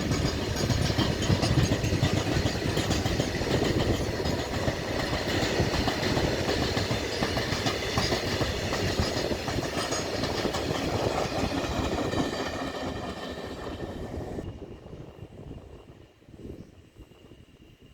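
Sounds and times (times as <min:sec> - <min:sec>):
train wheels clattering on rails: 0:00.0 - 0:14.5.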